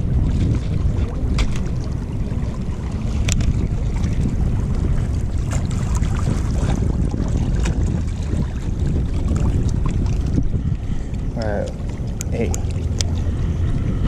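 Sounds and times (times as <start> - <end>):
waves lapping against rocks: 0.0 - 14.0
wind rumbling on microphone: 0.0 - 14.0.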